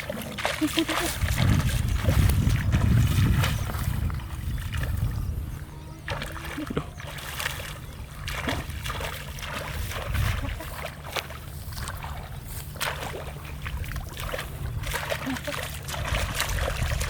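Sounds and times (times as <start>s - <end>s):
steady low rumble: 0.0s - 17.0s
water splashing and sloshing: 0.0s - 17.0s.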